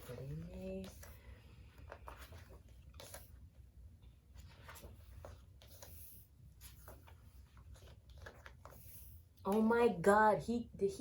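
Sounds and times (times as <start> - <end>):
pages turning: 0.0 - 9.6.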